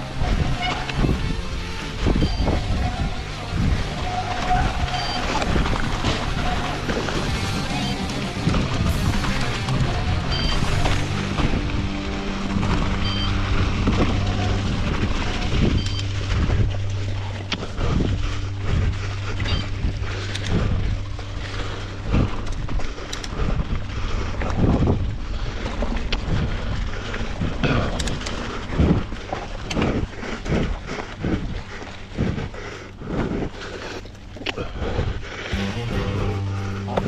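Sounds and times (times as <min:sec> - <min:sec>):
wind buffeting microphone: 0:00.0 - 0:33.6.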